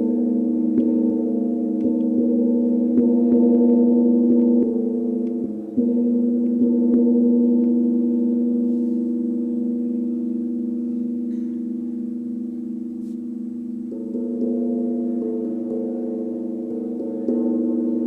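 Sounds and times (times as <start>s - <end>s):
deep ringing struck instrument: 0.0s - 18.0s.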